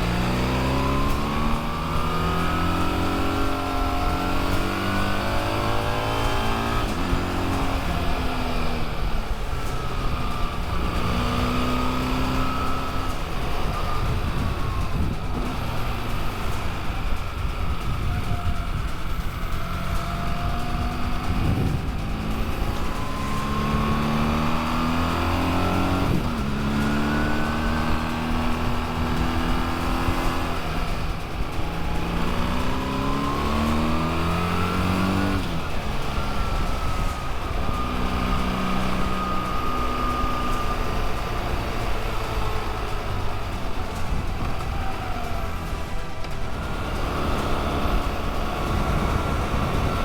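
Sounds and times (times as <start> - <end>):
motorcycle engine revving: 0.0 - 50.0
road and wind noise: 0.0 - 50.0.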